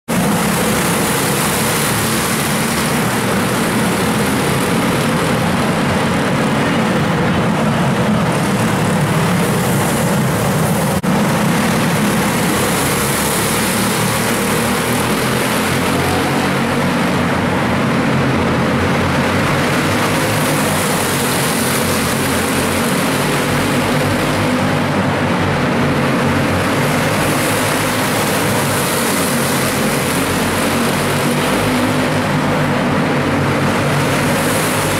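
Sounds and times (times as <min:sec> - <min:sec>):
racing kart engines buzzing: 0:00.1 - 0:34.9.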